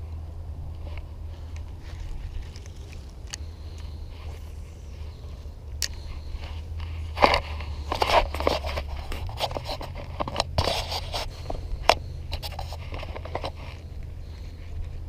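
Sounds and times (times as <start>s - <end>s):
wind rumble on microphone: 0.0s - 15.0s
scraping and scratching: 0.8s - 15.0s.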